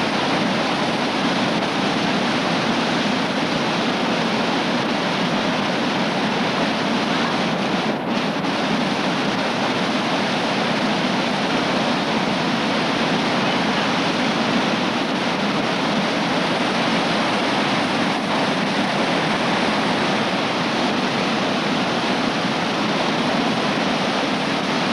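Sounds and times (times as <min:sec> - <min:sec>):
river rapid rushing: 0:00.0 - 0:24.9.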